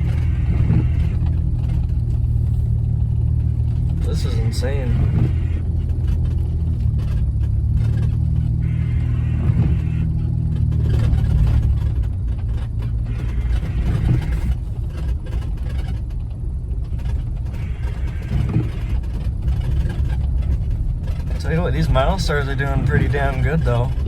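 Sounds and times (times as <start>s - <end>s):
car engine running: 0.0s - 24.0s
tyres in snow: 0.0s - 24.0s.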